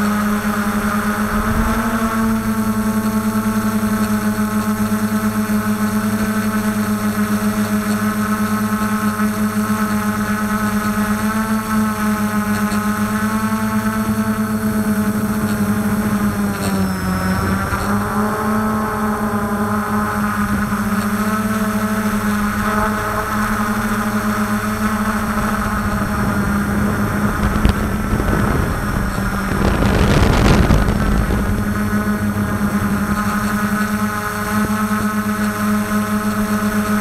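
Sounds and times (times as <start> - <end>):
quadcopter propellers whirring: 0.0 - 37.0.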